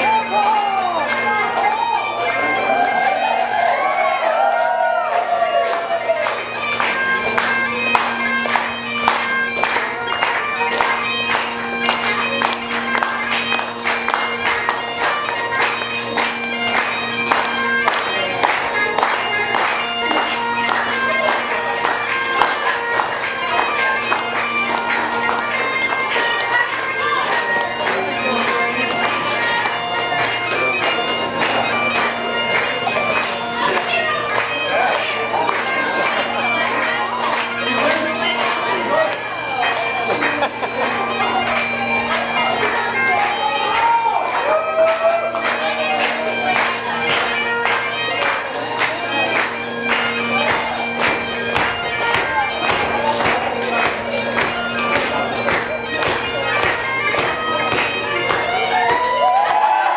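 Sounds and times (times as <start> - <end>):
bagpipe drones: 0.0 - 59.9
bagpipes playing a fast reel: 0.0 - 59.9.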